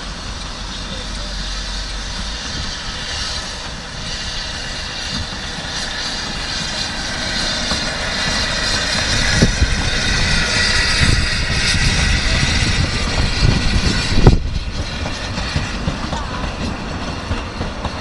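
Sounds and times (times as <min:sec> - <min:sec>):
steam locomotive pulling away: 0:00.0 - 0:18.0.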